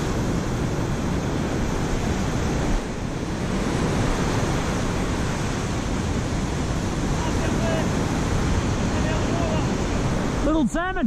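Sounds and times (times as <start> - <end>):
wind on microphone: 0.0 - 10.5
ocean surf breaking: 0.0 - 11.0.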